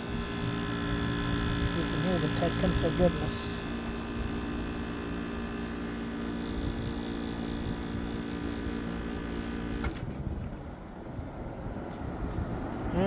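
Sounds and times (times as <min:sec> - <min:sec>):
air conditioner compressor hum: 0:00.0 - 0:13.0.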